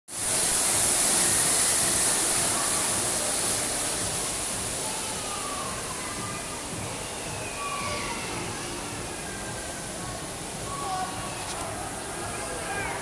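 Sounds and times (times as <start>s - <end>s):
fountain water splashing: 0.1s - 13.0s.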